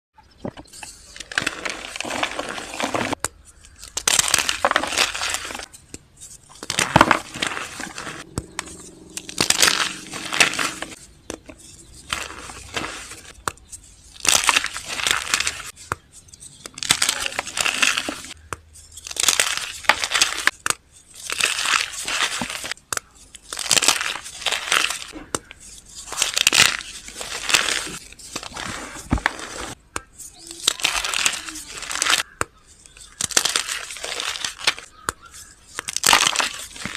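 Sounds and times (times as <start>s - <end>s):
chalk blocks crunching: 0.5s - 36.9s.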